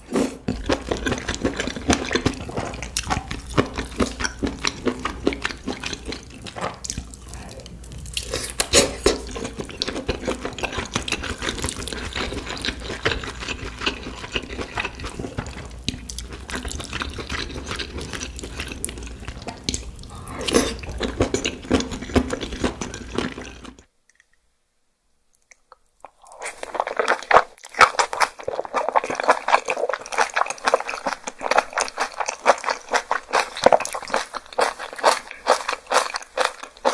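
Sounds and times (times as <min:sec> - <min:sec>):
wet chewing and slurping: 0:00.0 - 0:23.9, 0:26.0 - 0:36.9.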